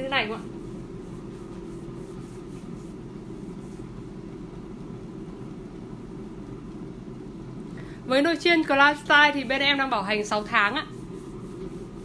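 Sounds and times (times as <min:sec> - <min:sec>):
air fryer fan whirring: 0:00.0 - 0:12.0.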